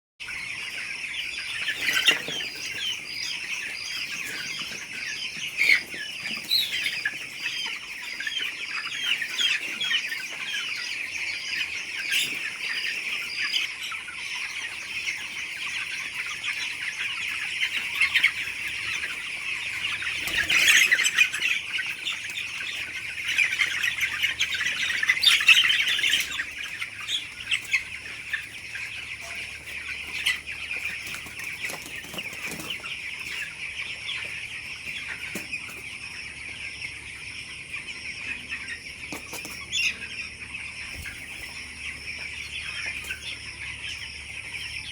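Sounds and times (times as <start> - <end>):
chicks peeping and chirping: 0.2 - 44.9.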